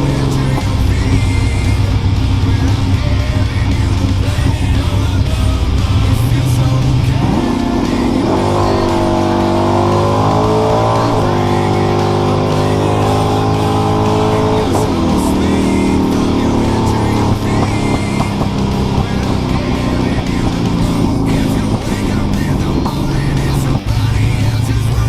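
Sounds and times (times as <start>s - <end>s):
race car engine accelerating: 0.0s - 25.0s
rock music: 0.0s - 25.0s.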